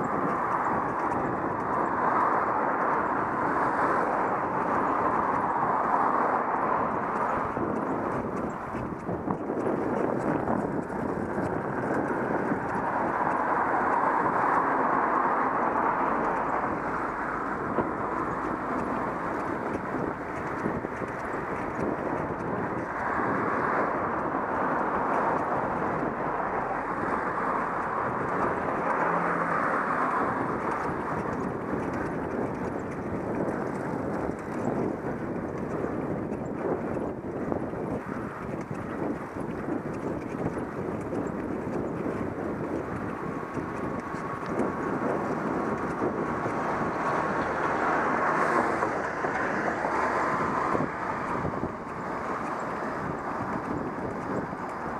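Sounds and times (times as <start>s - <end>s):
bicycle tyres rolling on road: 0.0s - 54.9s
wind on microphone: 0.0s - 54.9s.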